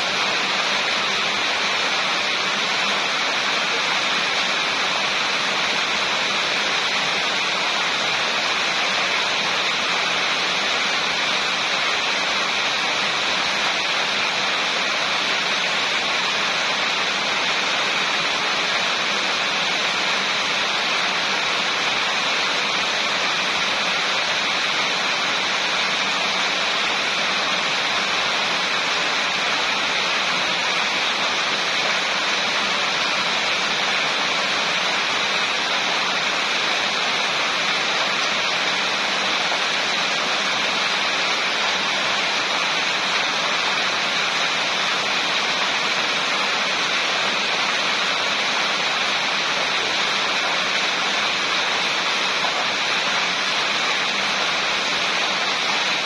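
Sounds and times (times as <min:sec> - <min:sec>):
rain falling steadily: 0:00.0 - 0:56.0.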